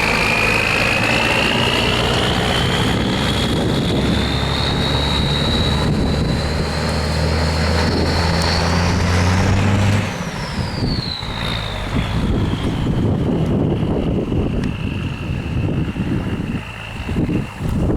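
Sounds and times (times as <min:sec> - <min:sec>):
high turbo whistle: 0:00.0 - 0:17.6
diesel truck engine under load: 0:00.0 - 0:17.9.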